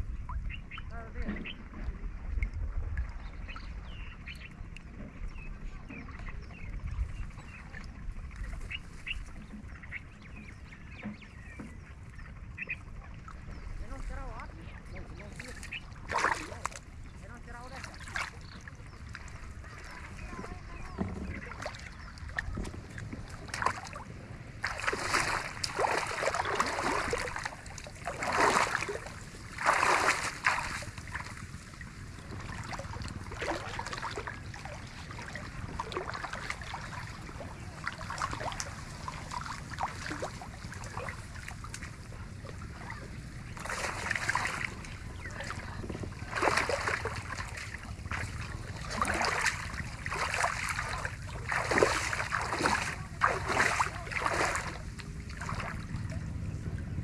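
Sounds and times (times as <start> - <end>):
water splashing and sloshing: 0.0 - 57.0.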